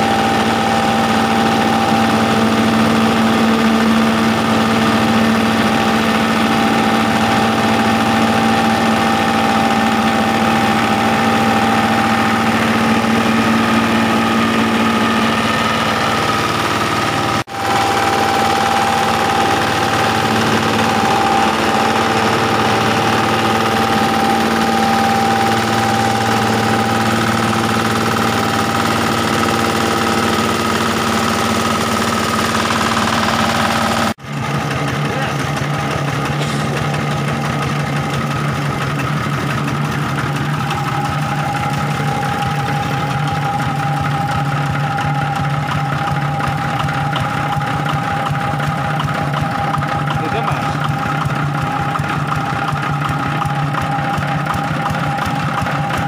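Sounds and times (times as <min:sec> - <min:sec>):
grinding mill running: 0:00.0 - 0:56.0
mill whine: 0:00.0 - 0:56.0
stationary engine running: 0:00.0 - 0:56.0.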